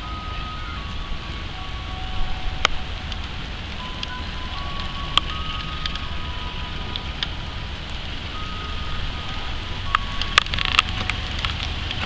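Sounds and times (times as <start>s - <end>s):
diesel locomotives rumbling: 0.0s - 12.0s
wheels squealing on track: 0.0s - 12.0s.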